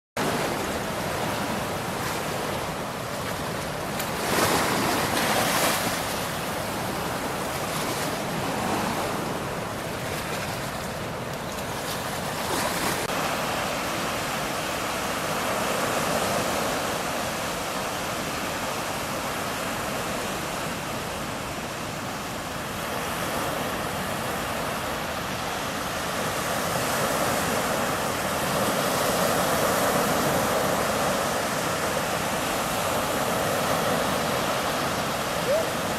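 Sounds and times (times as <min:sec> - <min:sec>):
rushing floodwater: 0:00.2 - 0:35.9.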